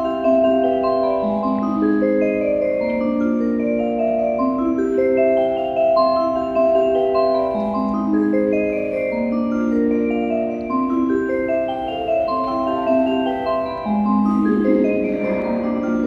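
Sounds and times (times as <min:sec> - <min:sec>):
chime-like melody over speakers: 0:00.0 - 0:16.0.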